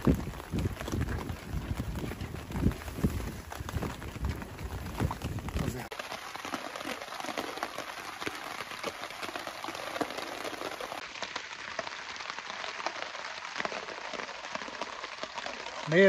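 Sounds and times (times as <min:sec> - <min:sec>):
rain drops ticking on a tarp: 0:00.0 - 0:16.0.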